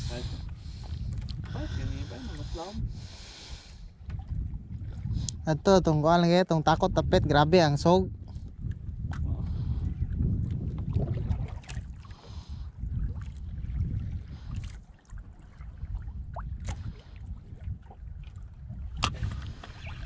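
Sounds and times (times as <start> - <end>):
water lapping against boat hull: 0.0 - 7.0, 8.1 - 20.0
wind rumbling on microphone: 0.0 - 20.0.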